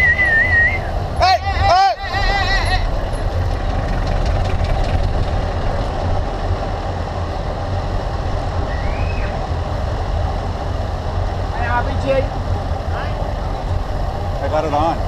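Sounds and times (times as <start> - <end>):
bike tyre and road noise: 0.0 - 15.0
wind buffeting microphone: 0.8 - 15.0.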